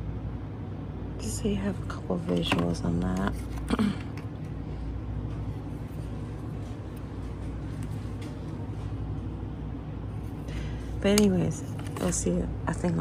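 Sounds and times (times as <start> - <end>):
low rumble of shop room tone: 0.0 - 13.0.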